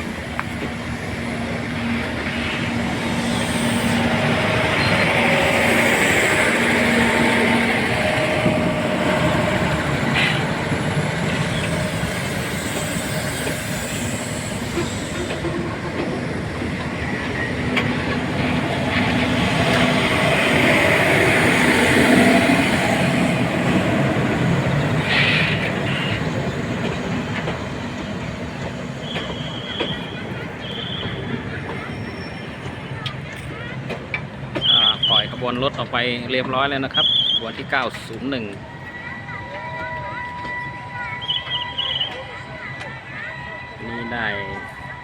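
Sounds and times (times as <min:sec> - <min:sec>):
train wheels clattering on rails: 0:02.1 - 0:38.6.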